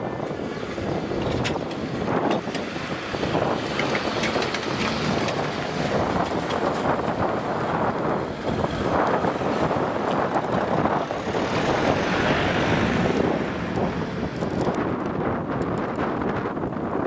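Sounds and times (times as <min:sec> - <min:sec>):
train rumbling: 0:00.0 - 0:15.1
wind buffeting microphone: 0:00.0 - 0:17.0.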